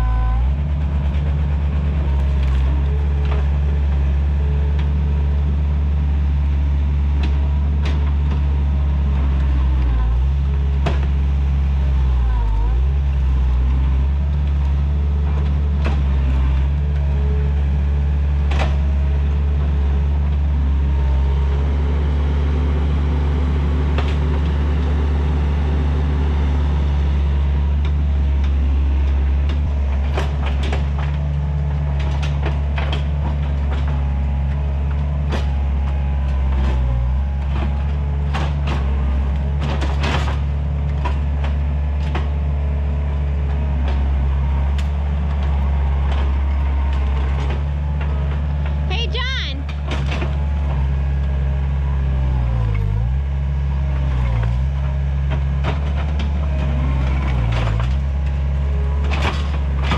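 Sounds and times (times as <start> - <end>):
track loader diesel engine drone: 0.0 - 59.9.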